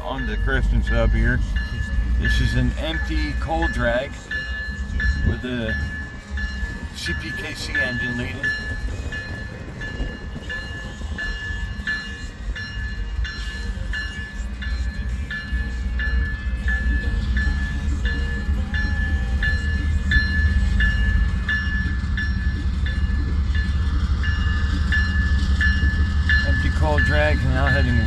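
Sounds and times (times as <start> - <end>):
bell ringing: 0.0 - 28.0
diesel freight train rumbling: 0.0 - 28.0.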